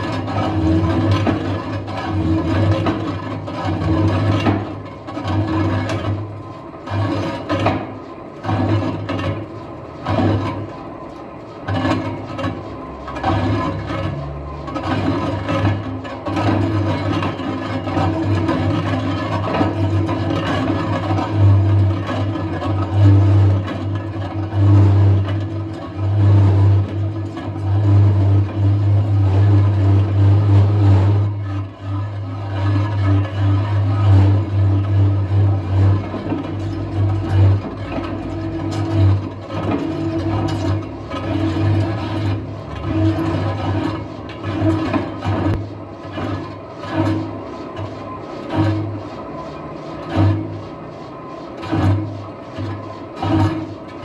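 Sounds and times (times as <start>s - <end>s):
lathe tool scraping metal: 0.0s - 54.0s
low machine hum: 0.0s - 54.0s.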